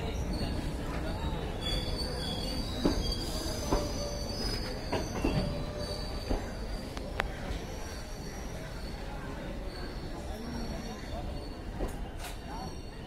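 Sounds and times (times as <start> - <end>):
train wheel squeal: 0.0 - 13.0.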